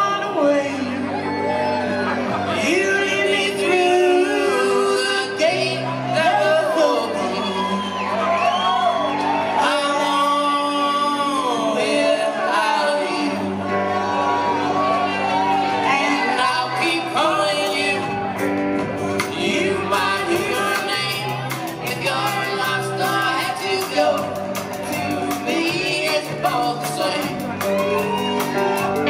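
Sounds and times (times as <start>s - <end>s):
man and woman singing: 0.0s - 8.6s, 9.5s - 18.5s, 19.1s - 29.0s
electric guitars: 0.0s - 29.0s.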